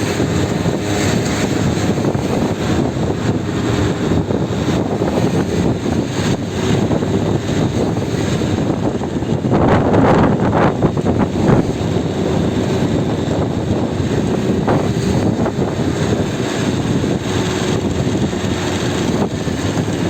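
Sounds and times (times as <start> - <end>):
heavy rough sea: 0.0 - 20.0
wind rushing over microphone: 0.0 - 20.0.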